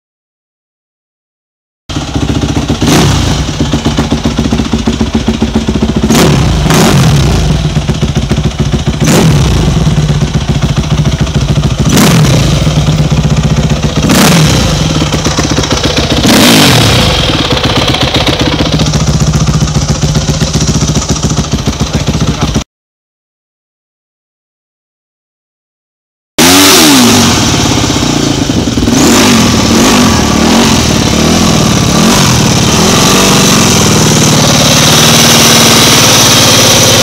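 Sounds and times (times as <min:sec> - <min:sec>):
motorcycle engine idling and revving: 0:01.9 - 0:22.7, 0:26.4 - 0:37.0.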